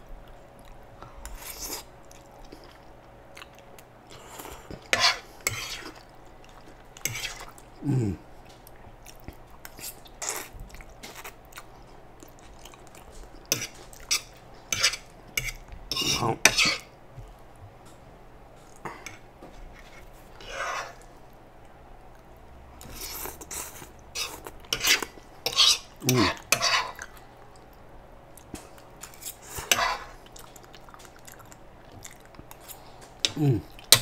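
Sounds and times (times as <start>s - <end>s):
slurping and chewing: 0.6s - 16.8s, 22.8s - 34.0s.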